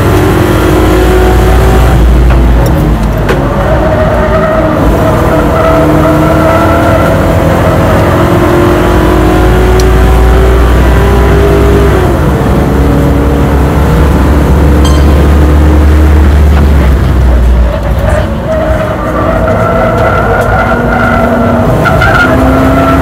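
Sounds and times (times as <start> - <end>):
car engine revving at full throttle: 0.0 - 23.0.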